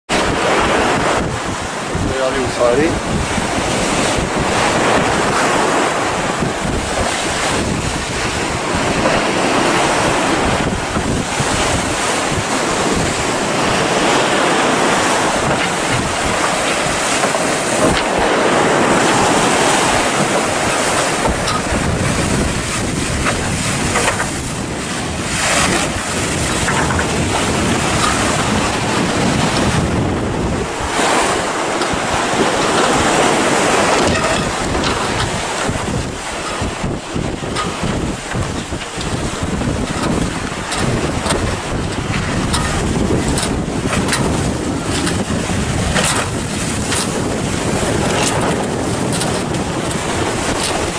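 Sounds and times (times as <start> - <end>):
sea waves breaking: 0.1 - 50.9
wind noise on microphone: 0.1 - 50.9.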